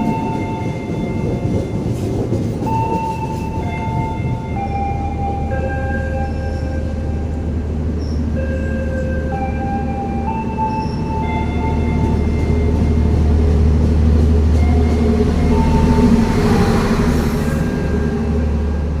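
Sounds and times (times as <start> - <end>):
high steady train tones: 0.0 - 19.0
train rumbling past: 0.0 - 19.0.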